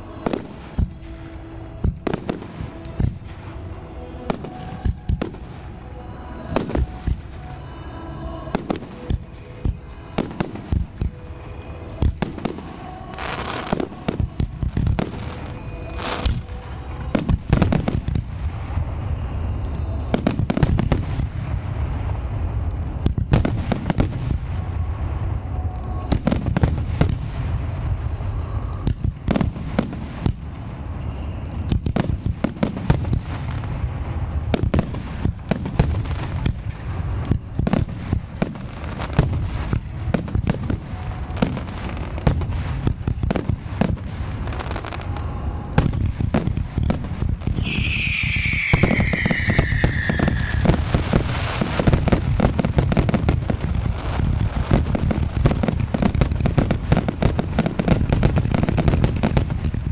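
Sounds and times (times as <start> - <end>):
falling firework whistle: 0.0 - 22.4, 23.0 - 42.5, 43.2 - 59.4
fireworks bursts and booms: 0.0 - 59.9.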